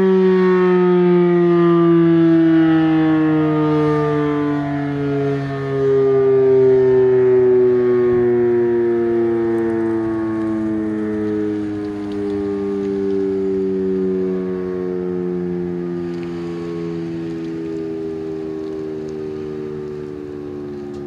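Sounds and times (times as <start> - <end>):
warning siren winding down: 0.0 - 21.0.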